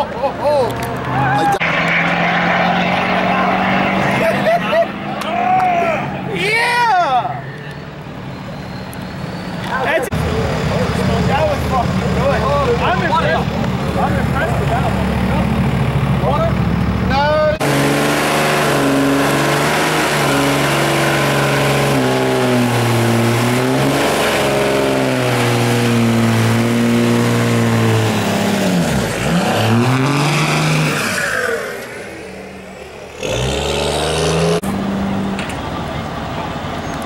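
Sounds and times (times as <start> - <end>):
truck engine revving hard: 0.7 - 6.4, 9.2 - 35.4.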